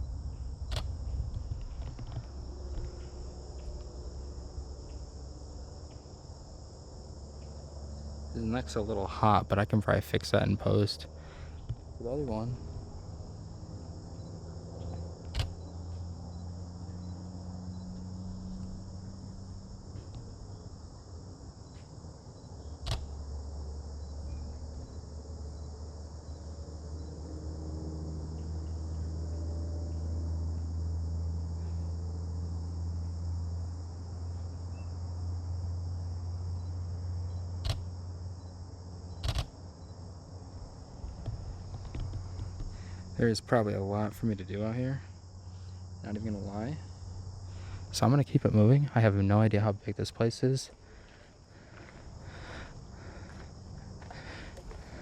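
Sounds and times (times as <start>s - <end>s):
crickets chirping: 0.0s - 55.0s
low steady rumble: 0.0s - 55.0s.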